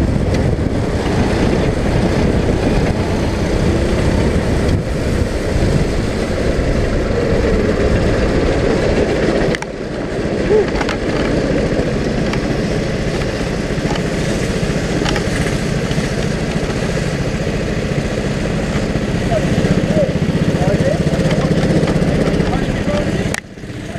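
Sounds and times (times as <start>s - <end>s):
go-kart engine running: 0.0s - 23.9s.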